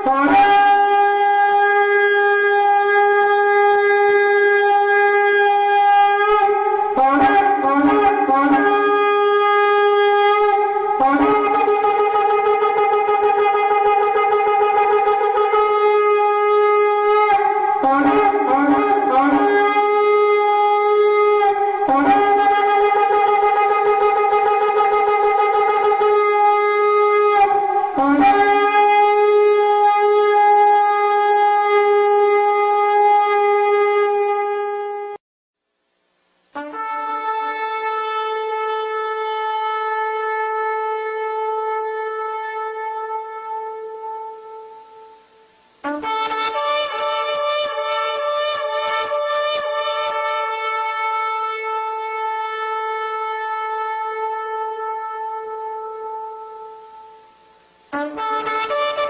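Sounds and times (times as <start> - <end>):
shofar blasts: 0.0 - 35.2, 36.6 - 59.0.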